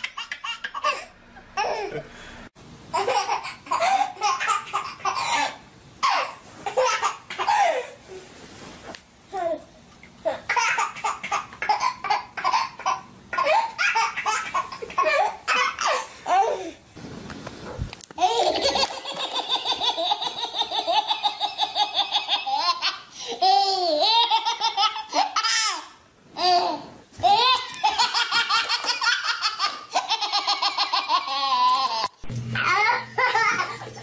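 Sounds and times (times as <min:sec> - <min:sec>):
babies laughing: 0:00.0 - 0:02.0, 0:03.0 - 0:08.0, 0:10.3 - 0:16.6, 0:18.2 - 0:34.0.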